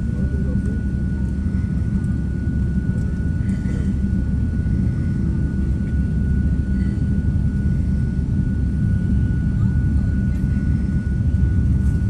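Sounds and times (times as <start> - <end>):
jet engines rumbling: 0.0 - 12.0
thin steady whine: 0.0 - 12.0.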